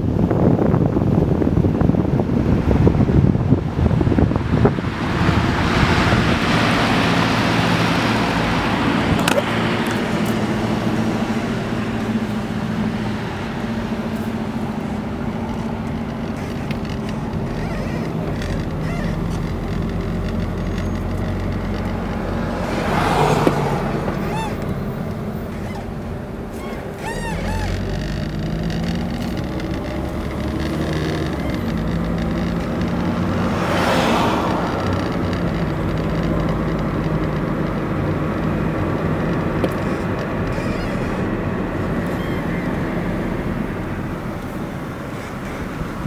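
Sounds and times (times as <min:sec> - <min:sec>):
car engine hum: 0:00.0 - 0:46.0
tyre and road noise: 0:00.0 - 0:46.0.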